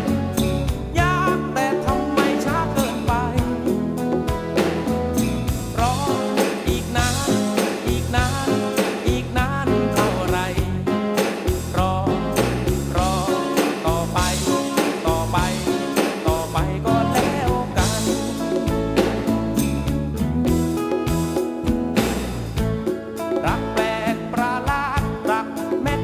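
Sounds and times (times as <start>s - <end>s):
person singing: 0.0s - 5.0s, 5.7s - 19.3s, 23.2s - 26.0s
band playing a song: 0.0s - 26.0s.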